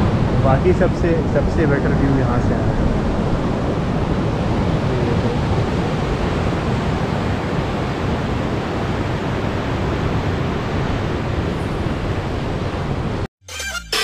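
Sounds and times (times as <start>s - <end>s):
ocean surf: 0.0s - 13.3s
wind: 0.0s - 13.3s.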